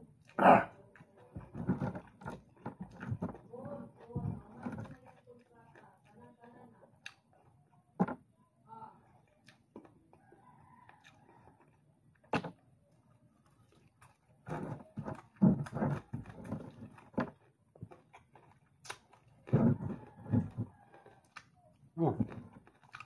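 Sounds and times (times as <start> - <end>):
chewing: 0.0 - 8.0, 9.0 - 23.0.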